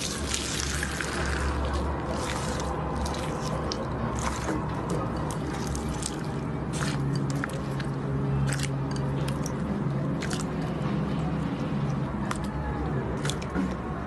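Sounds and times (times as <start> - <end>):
slime squelching: 0.0 - 13.9.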